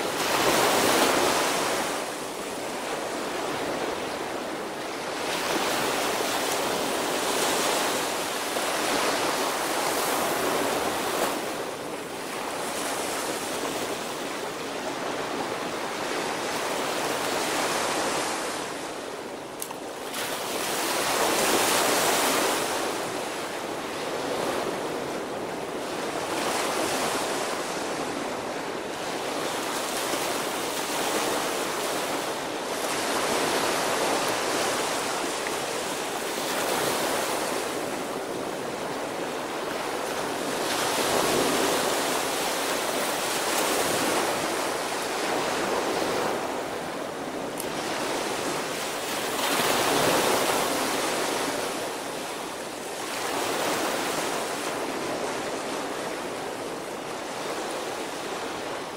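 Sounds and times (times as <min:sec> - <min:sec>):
small waves breaking on beach: 0:00.0 - 0:58.9.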